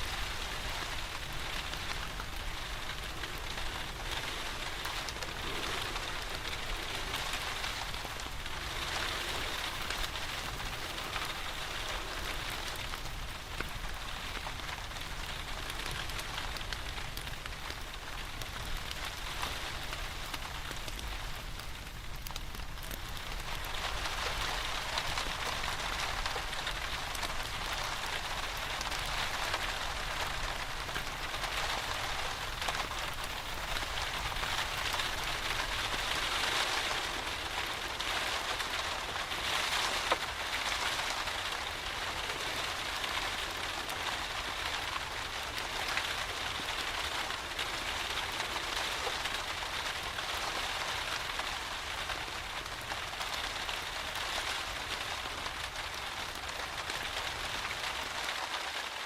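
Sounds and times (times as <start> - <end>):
steady rain falling: 0.0 - 59.0
wood fire crackling: 0.0 - 59.0.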